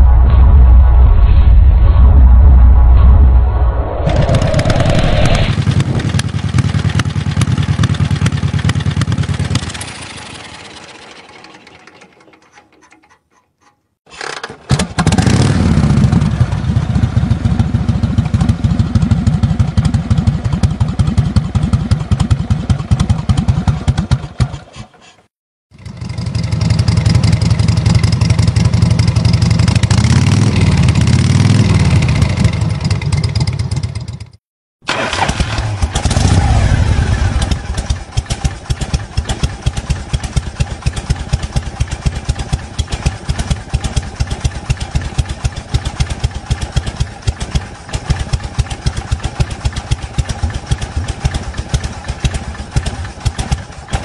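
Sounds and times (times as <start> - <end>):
motorcycle engine idling and revving: 4.2 - 12.6, 14.3 - 25.0, 25.7 - 54.0.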